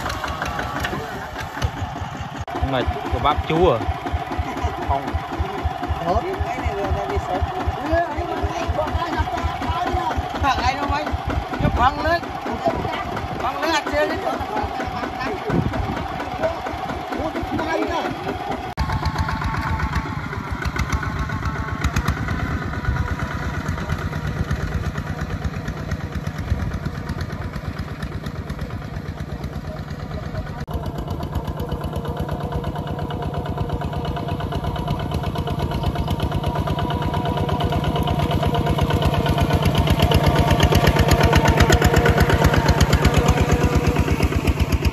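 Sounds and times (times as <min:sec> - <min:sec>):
diesel tractor engine running: 0:00.0 - 0:44.9.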